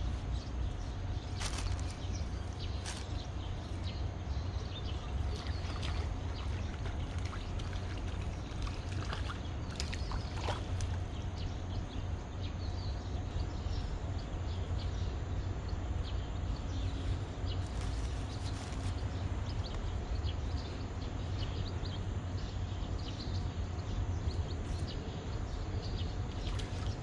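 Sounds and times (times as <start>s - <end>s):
low rumble of traffic: 0.0s - 27.0s.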